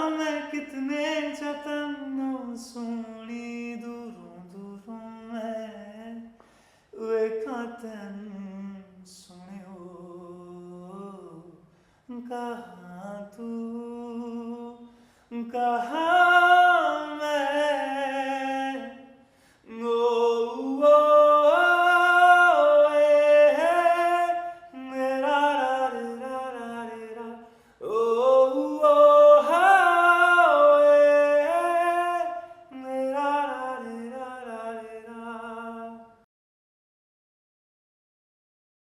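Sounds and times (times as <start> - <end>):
man singing unaccompanied: 0.0 - 6.4, 7.0 - 36.3.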